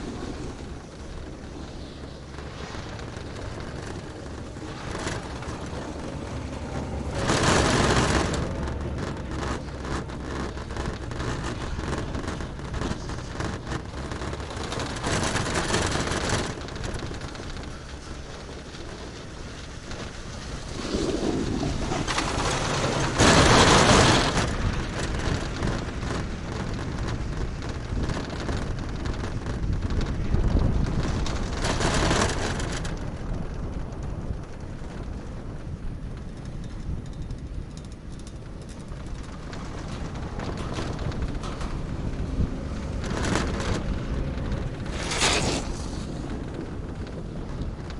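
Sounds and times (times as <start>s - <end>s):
chairlift rumbling rattle: 0.0s - 47.9s
chairlift running noise: 0.0s - 47.9s.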